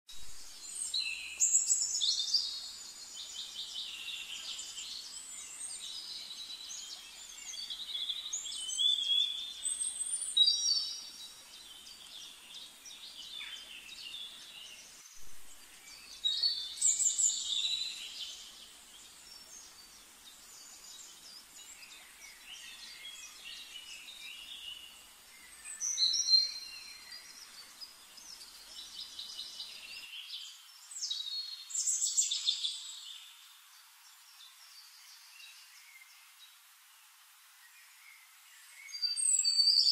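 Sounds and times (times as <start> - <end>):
birds singing and calling: 0.1 - 36.4, 38.0 - 39.9
faint steady hiss: 0.1 - 39.9.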